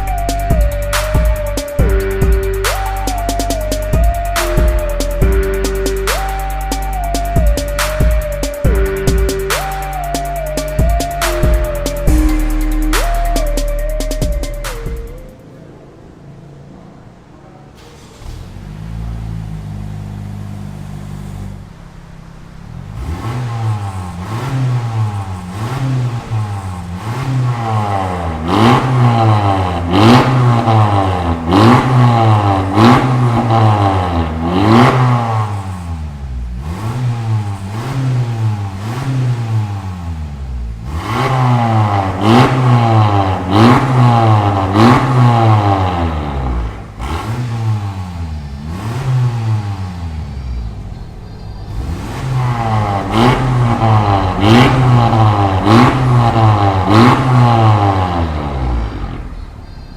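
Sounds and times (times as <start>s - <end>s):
car engine idling: 0.0s - 59.9s
car engine revving: 0.0s - 59.9s.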